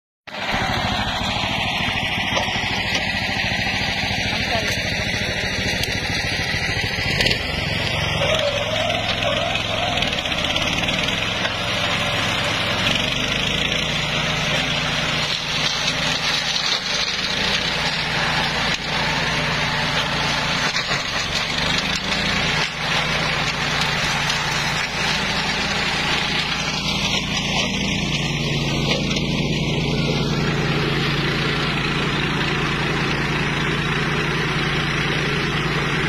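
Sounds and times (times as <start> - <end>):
flail mower chopping branches: 0.3 - 36.0
small tractor engine running: 0.3 - 36.0.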